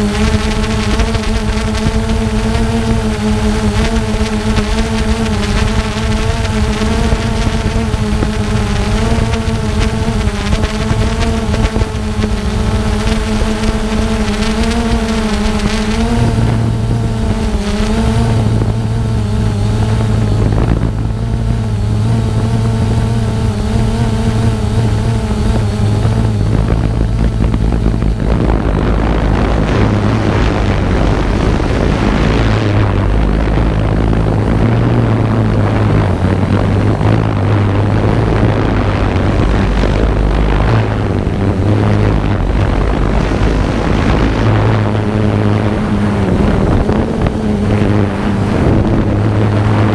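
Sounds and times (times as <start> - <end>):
drone propellers humming: 0.0 - 49.9
wind on microphone: 0.0 - 49.9.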